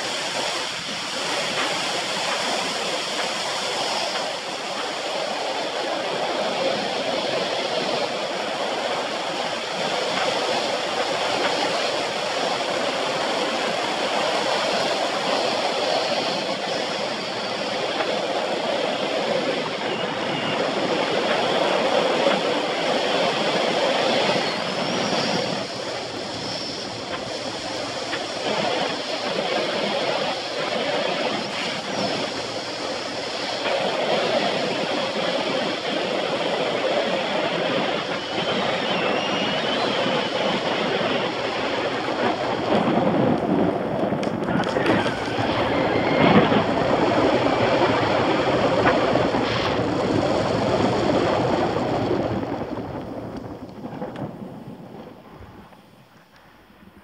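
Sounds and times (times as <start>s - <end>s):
tyres rolling on asphalt: 0.0s - 57.0s
wind noise on microphone: 0.0s - 57.0s.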